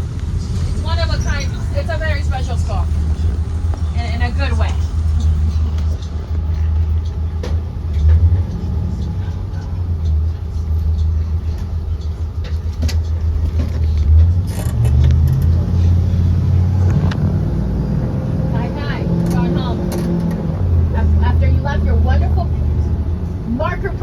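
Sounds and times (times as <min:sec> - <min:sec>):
bus engine rumbling: 0:00.0 - 0:24.0.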